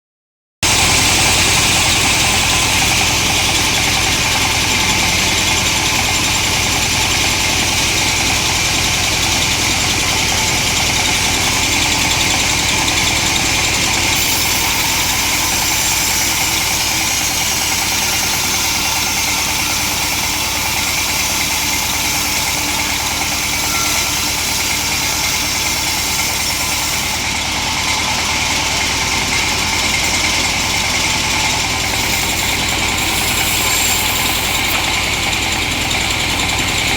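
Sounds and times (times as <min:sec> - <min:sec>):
chainsaw engine running: 0:00.6 - 0:36.9.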